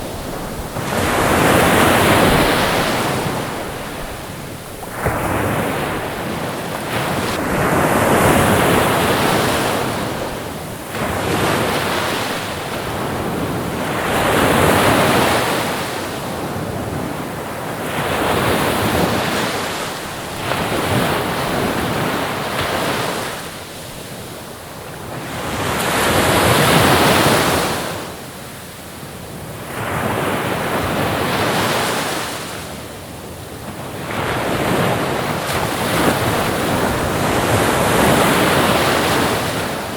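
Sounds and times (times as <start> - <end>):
ocean waves breaking: 0.0 - 28.2, 33.6 - 39.9.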